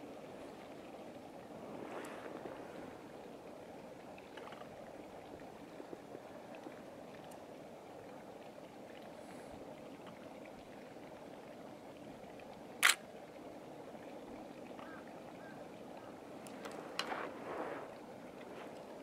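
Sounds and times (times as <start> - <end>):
hot spring water: 0.0 - 19.0.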